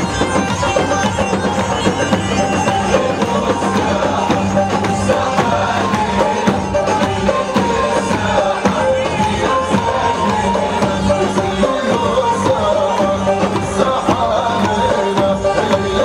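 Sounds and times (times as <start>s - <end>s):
hand drums: 0.0s - 16.0s
saxophone melody: 0.0s - 16.0s.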